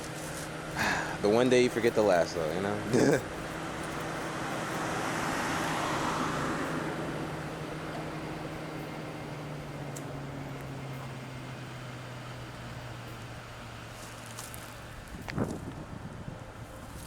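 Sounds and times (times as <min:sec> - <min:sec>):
car tyre and road noise: 0:00.0 - 0:17.0
low engine hum: 0:00.0 - 0:17.0.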